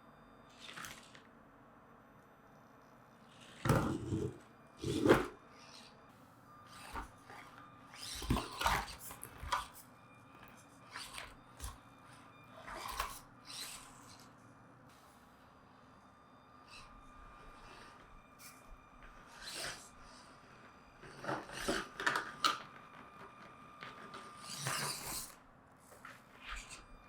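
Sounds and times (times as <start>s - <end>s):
toy car motor whirring: 0.5s - 1.2s, 3.2s - 14.4s, 16.6s - 27.0s.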